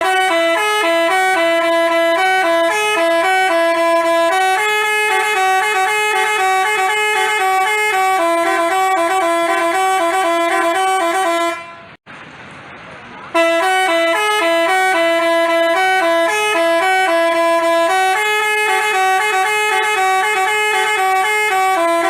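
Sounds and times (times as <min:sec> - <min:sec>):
bus horn playing fast melody: 0:00.0 - 0:12.0, 0:13.3 - 0:22.0.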